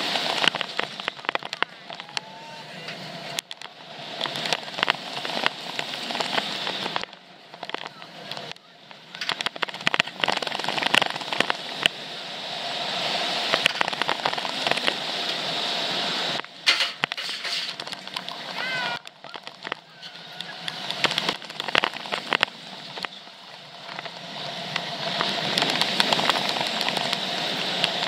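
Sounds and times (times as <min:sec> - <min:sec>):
roller coaster train rattling: 0:00.0 - 0:28.0.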